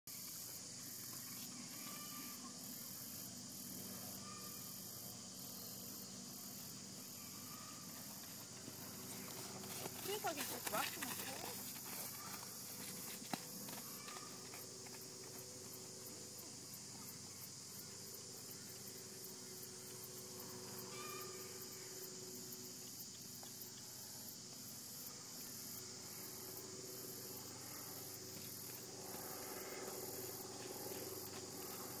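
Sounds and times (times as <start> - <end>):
insects chorus: 0.1 - 32.0
faint regular pulsing: 2.6 - 32.0.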